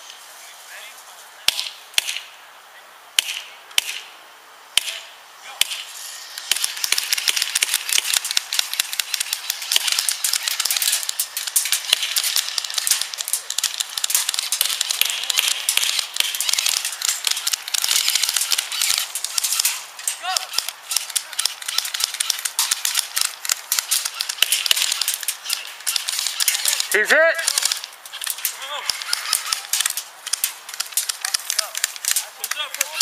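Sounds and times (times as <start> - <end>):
airsoft guns firing: 1.5 - 2.3, 3.2 - 4.1, 4.8 - 33.0.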